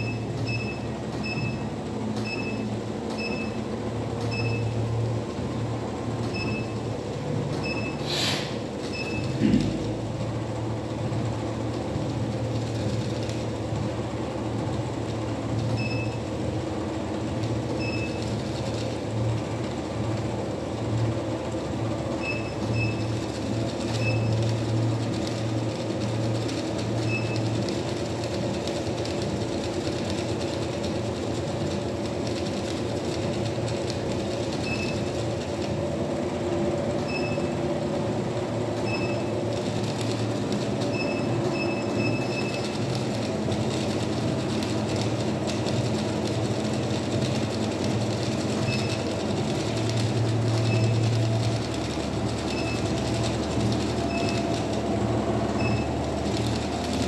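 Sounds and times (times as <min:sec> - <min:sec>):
treadmill motor humming: 0:00.0 - 0:57.0.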